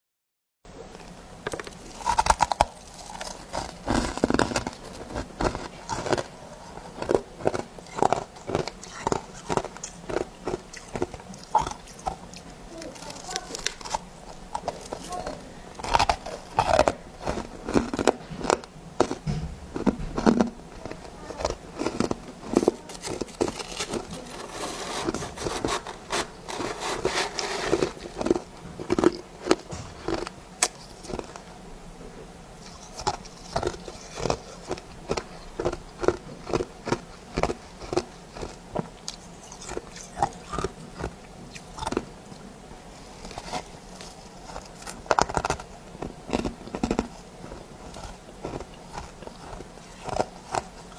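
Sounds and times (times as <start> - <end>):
person chewing crunchy ice: 1.7 - 31.4, 32.6 - 42.1, 43.2 - 50.9.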